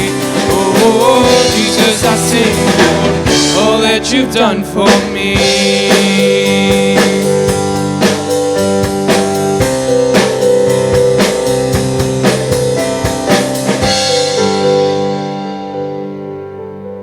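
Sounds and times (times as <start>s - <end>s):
steady drum beat: 0.0s - 15.1s.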